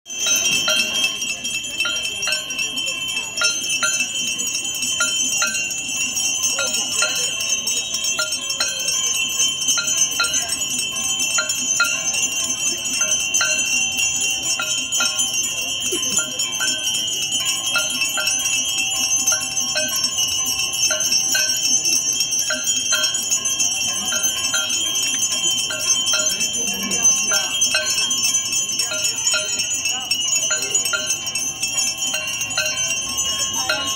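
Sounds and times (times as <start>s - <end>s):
temple bells ringing: 0.1s - 33.9s.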